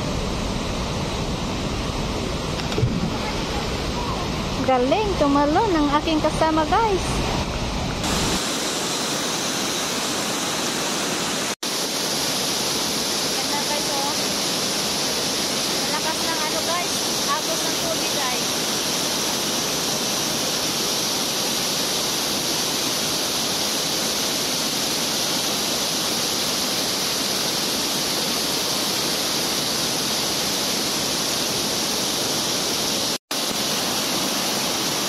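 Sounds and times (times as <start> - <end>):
water rushing over a weir: 0.0 - 35.0.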